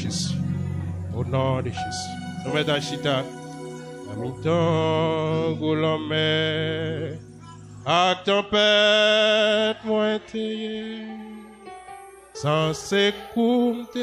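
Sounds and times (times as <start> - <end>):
man singing a slow hymn: 1.1 - 3.3, 4.1 - 11.7, 12.3 - 14.0.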